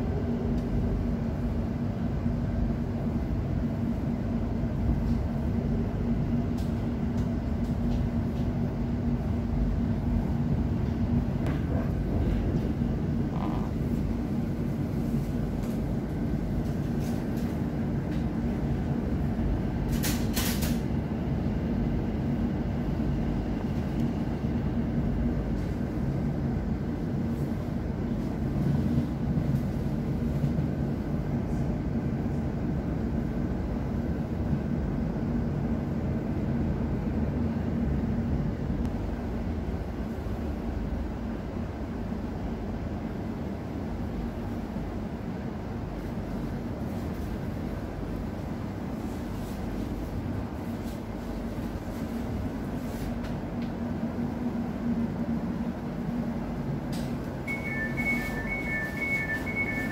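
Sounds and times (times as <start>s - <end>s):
electric train rumble and hum: 0.0s - 59.9s.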